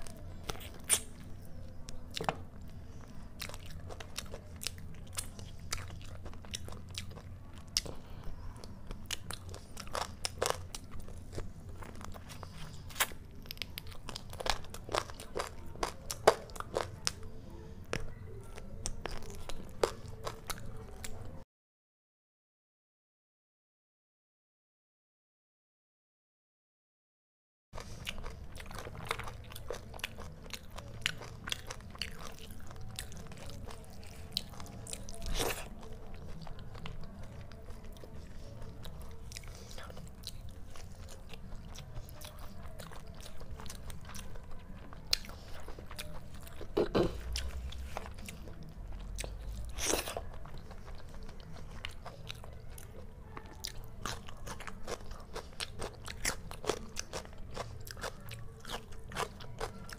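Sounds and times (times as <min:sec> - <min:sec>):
wet chewing and crunchy bites: 0:00.0 - 0:21.4, 0:27.8 - 0:59.9.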